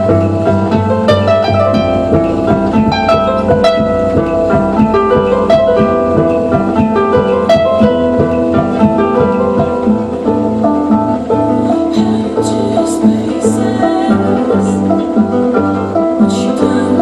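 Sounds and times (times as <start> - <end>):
sustained low bass notes: 0.0 - 16.2
electric harp plucked notes: 0.0 - 17.0.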